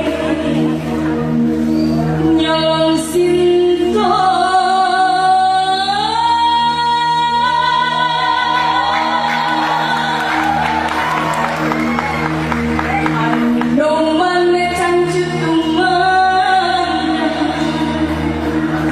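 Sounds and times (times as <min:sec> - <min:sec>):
woman singing: 0:00.0 - 0:01.2, 0:02.2 - 0:10.9, 0:13.0 - 0:18.6
backing music: 0:00.0 - 0:18.9.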